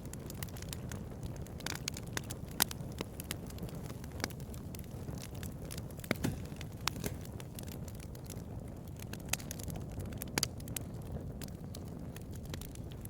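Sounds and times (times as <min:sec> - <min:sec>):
burning wood popping: 0:00.0 - 0:13.0
flame rushing: 0:00.0 - 0:13.0.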